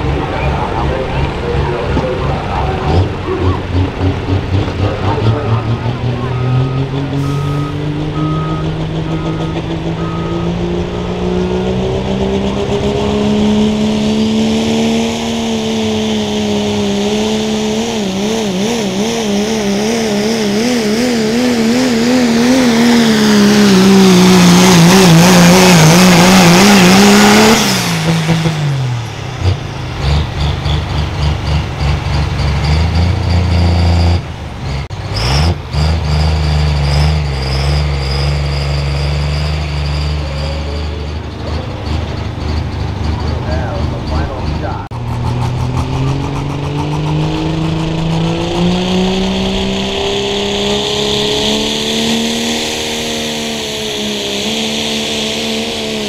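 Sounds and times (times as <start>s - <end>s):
diesel truck engine at full throttle: 0.0s - 56.0s.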